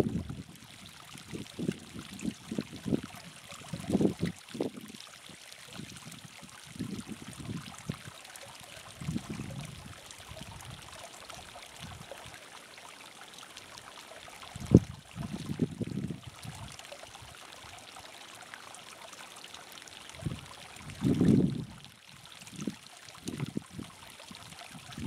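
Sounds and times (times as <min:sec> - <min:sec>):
water trickling over rock: 0:00.0 - 0:25.0.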